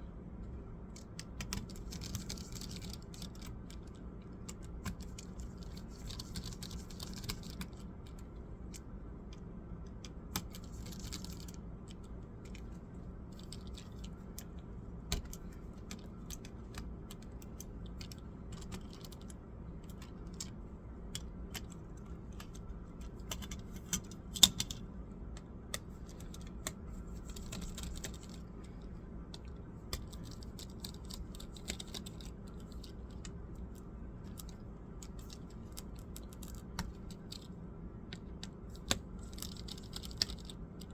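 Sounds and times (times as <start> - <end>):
laptop parts clicking and tapping: 0.9 - 40.9.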